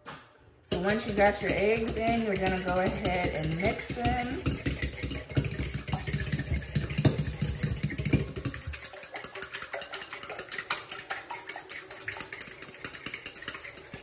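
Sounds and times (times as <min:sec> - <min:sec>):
fork whisking in metal bowl: 0:00.7 - 0:14.0.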